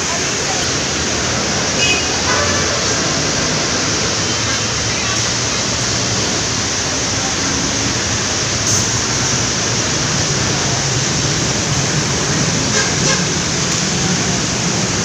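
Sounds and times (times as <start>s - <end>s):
city traffic roar: 0.0s - 15.0s.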